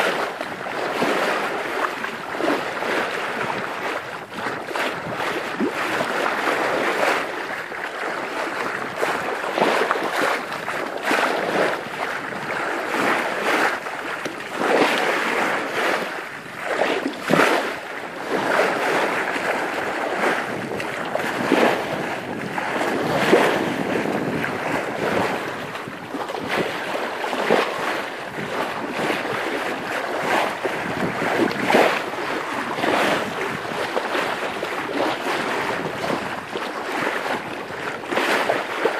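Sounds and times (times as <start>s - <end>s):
bow wave splashing along hull: 0.0s - 38.9s
wind buffeting microphone: 0.0s - 38.9s.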